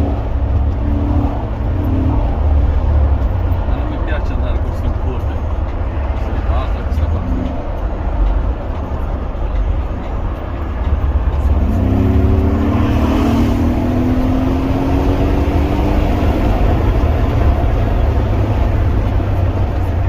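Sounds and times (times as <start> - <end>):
car engine accelerating: 0.0 - 20.0
low engine rumble: 0.0 - 20.0.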